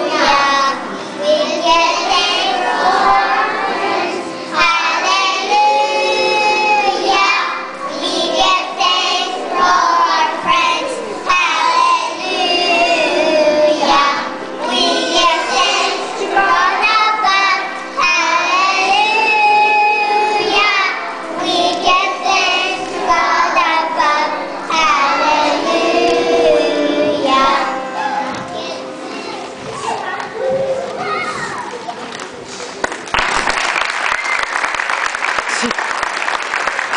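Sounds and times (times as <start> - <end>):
children singing in unison: 0.0 - 30.2.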